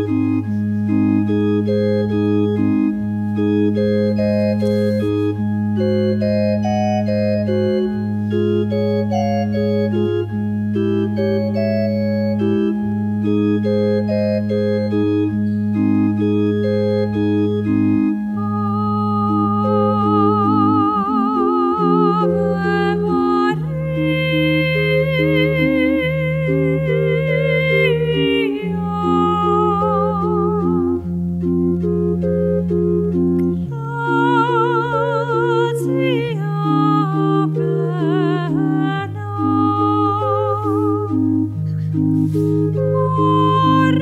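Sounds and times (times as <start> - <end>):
organ music: 0.0 - 44.0.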